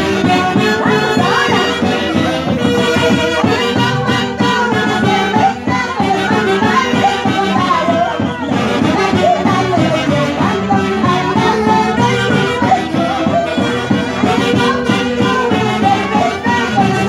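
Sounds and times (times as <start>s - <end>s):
saxophones and clarinets melody: 0.0s - 17.0s
steady drum beat: 0.0s - 17.0s.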